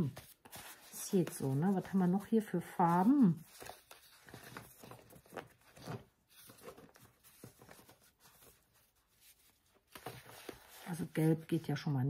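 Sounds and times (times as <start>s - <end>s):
cardstock rustling and tapping: 0.0s - 11.2s.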